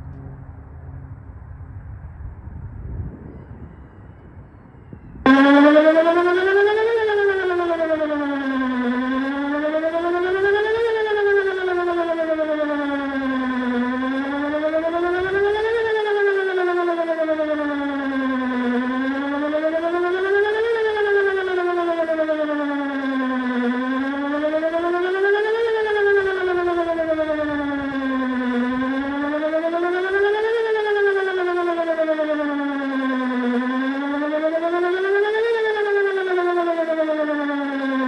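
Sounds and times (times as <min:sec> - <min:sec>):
warning siren wailing: 0:00.0 - 0:38.0.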